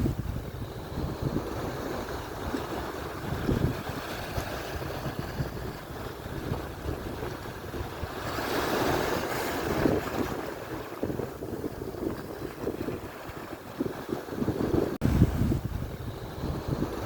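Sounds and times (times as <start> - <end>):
surf breaking on shore: 0.0 - 17.0
wind rumbling on microphone: 0.0 - 17.0.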